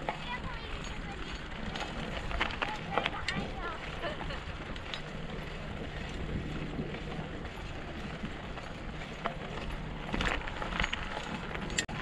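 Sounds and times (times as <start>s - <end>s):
bicycles rolling over dirt: 0.0s - 12.0s
light clicks and rattles: 0.0s - 12.0s.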